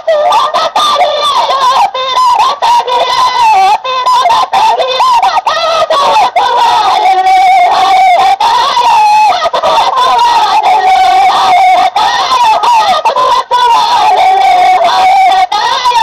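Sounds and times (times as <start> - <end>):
high-pitched devotional singing: 0.0 - 16.0.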